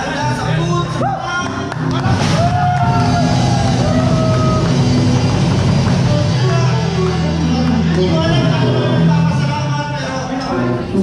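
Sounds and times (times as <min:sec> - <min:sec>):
loud music with singing: 0:00.0 - 0:11.0.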